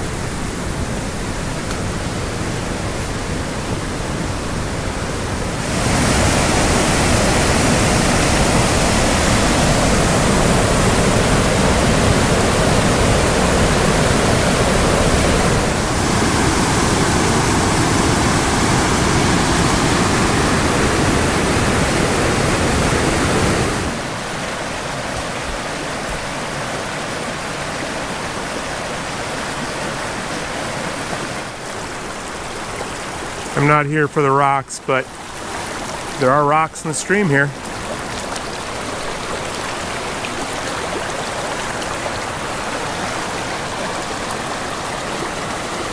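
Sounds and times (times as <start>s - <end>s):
waterfall rushing over rocks: 0.0s - 45.9s.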